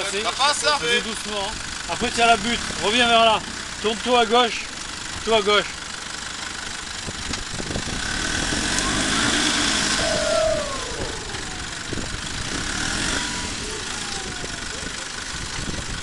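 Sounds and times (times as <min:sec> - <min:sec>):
truck engine revving: 0:00.9 - 0:16.0.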